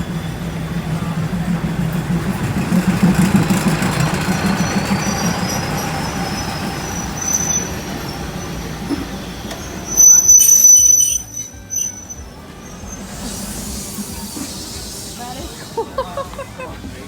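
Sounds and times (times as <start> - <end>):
rail rumble: 0.0 - 17.0
train engine drone: 0.0 - 17.0.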